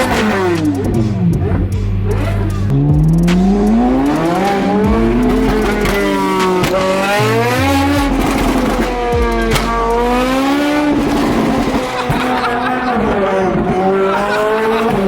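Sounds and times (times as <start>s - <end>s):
sports car engines accelerating: 0.0s - 15.0s.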